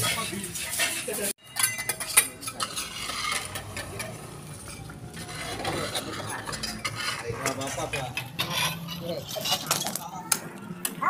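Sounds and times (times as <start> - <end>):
hard scraps clinking and scraping: 0.0 - 10.5.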